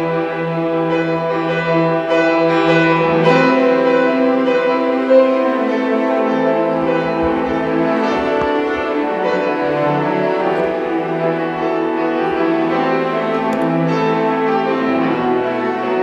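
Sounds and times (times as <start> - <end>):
bowed strings holding notes: 2.8 - 16.0.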